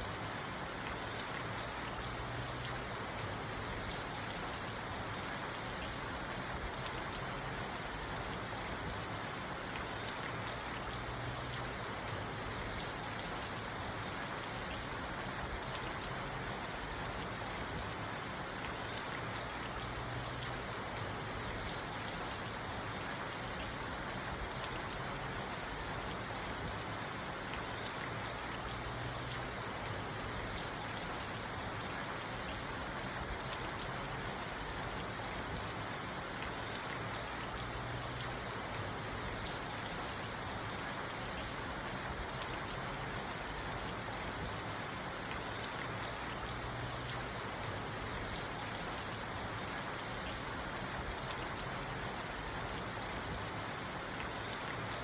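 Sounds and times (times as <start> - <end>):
rain on a car roof: 0.0 - 55.0.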